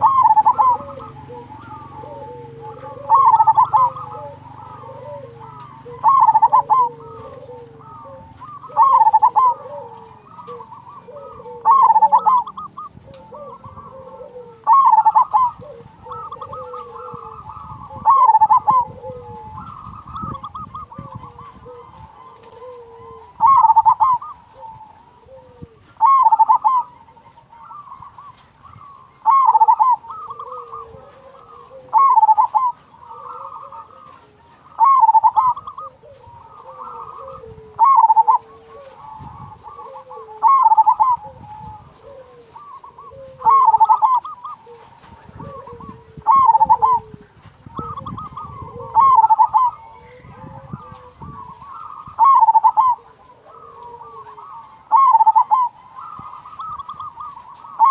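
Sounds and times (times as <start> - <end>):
dove trilling coo: 0.0 - 57.9
soft low dove coos: 0.0 - 57.9.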